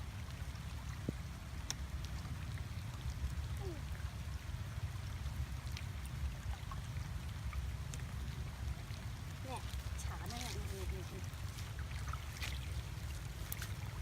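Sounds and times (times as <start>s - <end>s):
low steady rumble: 0.0s - 14.0s
water dripping and trickling: 0.0s - 14.0s.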